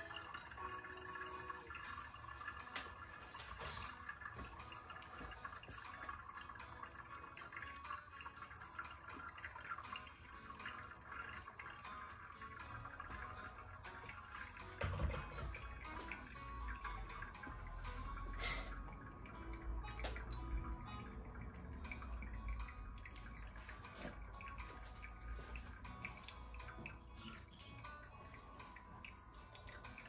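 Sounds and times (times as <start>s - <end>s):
water trickling and dripping: 0.0s - 30.0s.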